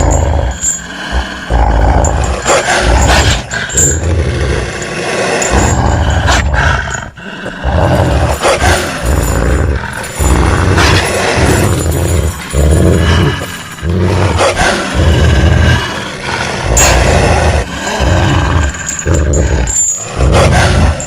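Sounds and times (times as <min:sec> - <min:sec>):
wolf growling and snarling: 0:00.0 - 0:21.0.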